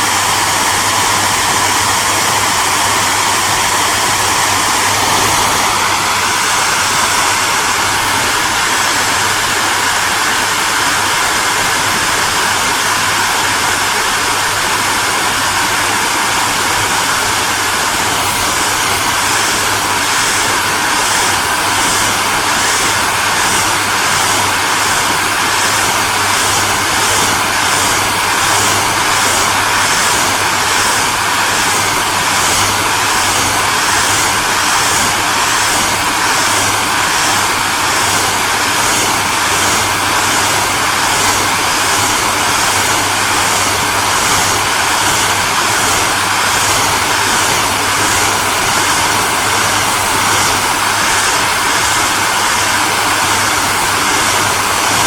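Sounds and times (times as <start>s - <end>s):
hairdryer blowing air: 0.0s - 55.0s.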